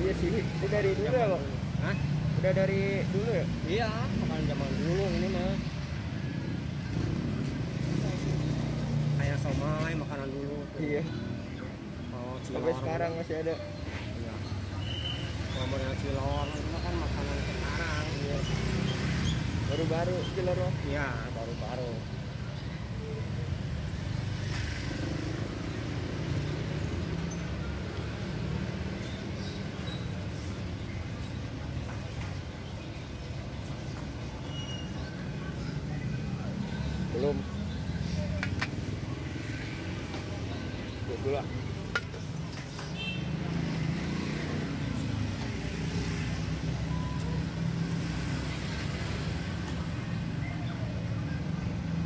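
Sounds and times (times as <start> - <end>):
road traffic noise: 0.0 - 52.0.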